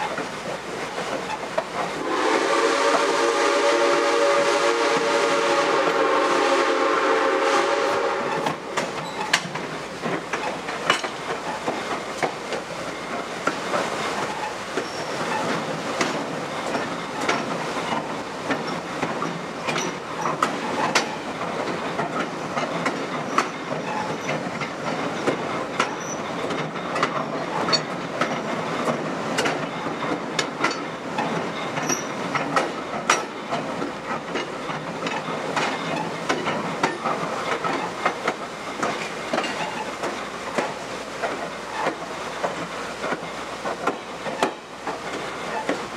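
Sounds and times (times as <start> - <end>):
train wheels rumbling on rails: 0.0 - 45.9
wheels clacking over track joints: 8.3 - 45.9.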